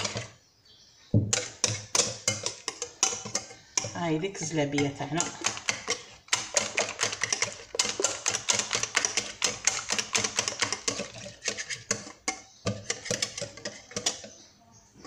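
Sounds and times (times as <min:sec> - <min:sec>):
whisk clicking against glass bowl: 0:01.3 - 0:04.0, 0:04.6 - 0:14.3.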